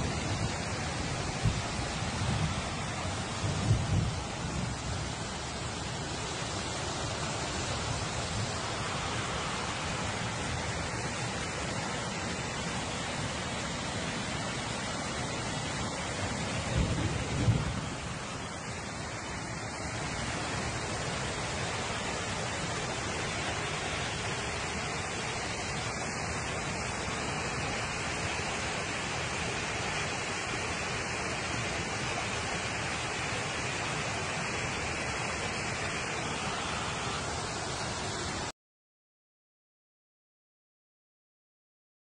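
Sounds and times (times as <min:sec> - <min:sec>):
floodwater rushing: 0:00.0 - 0:38.5.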